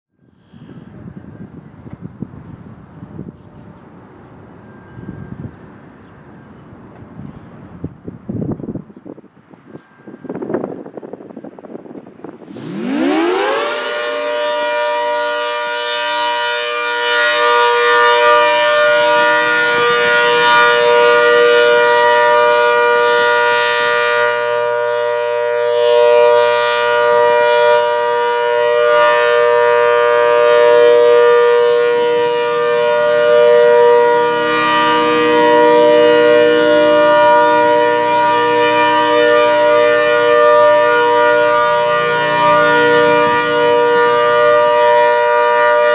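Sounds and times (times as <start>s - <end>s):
outdoor warning siren: 0.1s - 8.2s, 9.2s - 45.9s.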